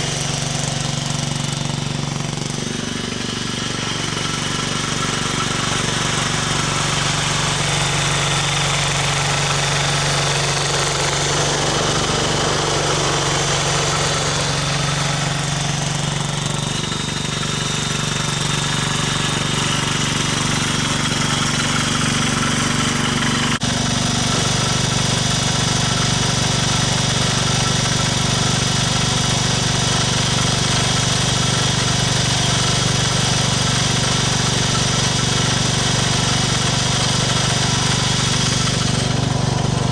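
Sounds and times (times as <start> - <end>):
snow machine engine running: 0.0 - 39.9.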